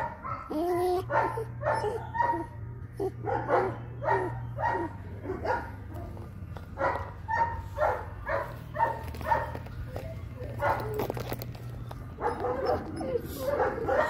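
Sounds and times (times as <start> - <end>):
puppy yipping and barking: 0.0 - 6.2, 6.8 - 14.0.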